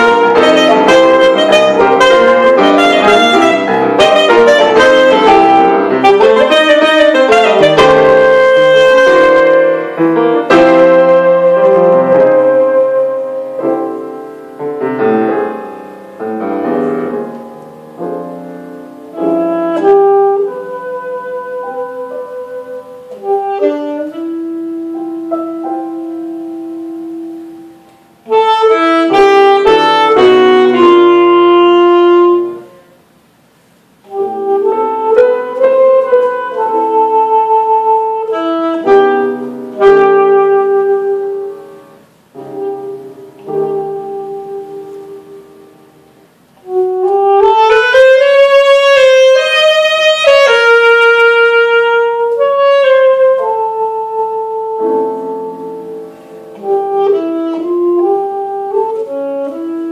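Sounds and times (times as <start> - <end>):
alto saxophone: 0.0 - 59.9
grand piano: 0.0 - 59.9.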